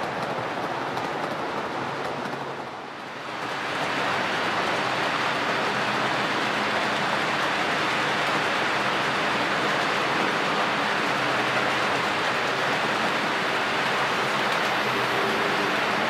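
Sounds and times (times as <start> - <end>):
model train whirring on track: 0.0 - 16.0.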